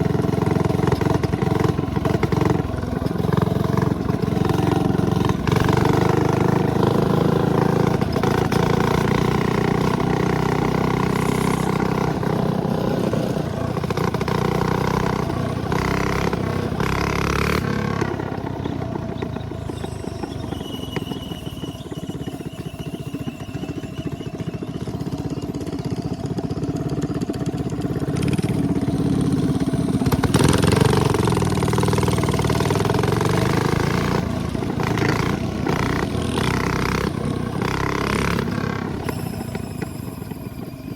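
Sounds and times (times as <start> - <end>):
minibike engine running: 0.0 - 40.9.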